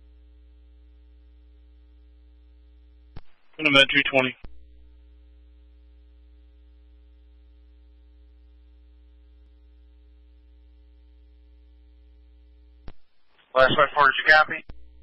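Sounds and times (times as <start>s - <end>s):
electrical hum on radio: 0.0s - 15.0s.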